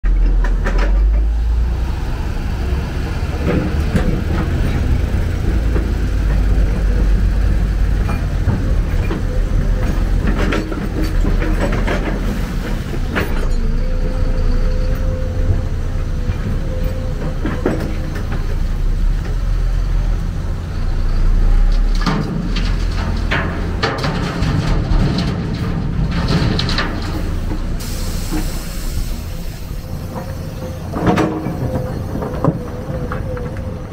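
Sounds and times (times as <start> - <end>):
excavator diesel engine rumbling: 0.0 - 33.9.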